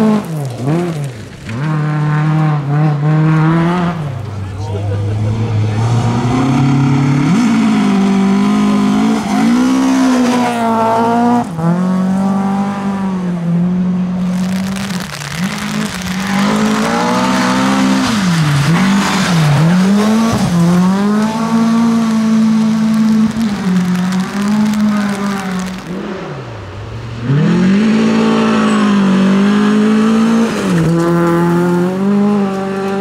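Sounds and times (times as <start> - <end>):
car engine revving hard: 0.0 - 26.6, 27.2 - 33.0.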